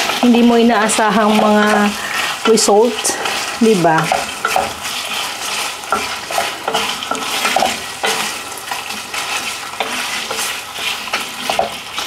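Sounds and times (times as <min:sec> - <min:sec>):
pork sizzling in a pan: 0:00.0 - 0:12.0
utensil scraping and clinking on pan: 0:00.0 - 0:12.0.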